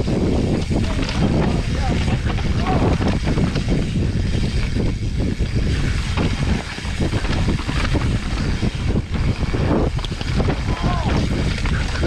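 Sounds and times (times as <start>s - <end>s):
bike rattling on rough trail: 0.0s - 12.0s
wind buffeting microphone: 0.0s - 12.0s.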